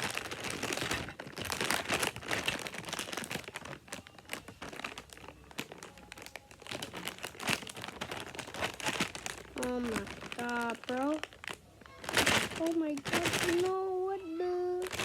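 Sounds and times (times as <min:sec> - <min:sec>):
packaging crinkling: 0:00.0 - 0:14.0, 0:14.7 - 0:15.0.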